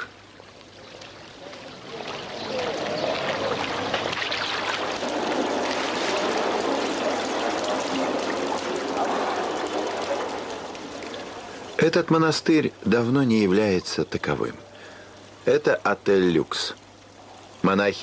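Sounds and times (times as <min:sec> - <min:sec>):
water splashing in fountain: 0:00.0 - 0:18.0.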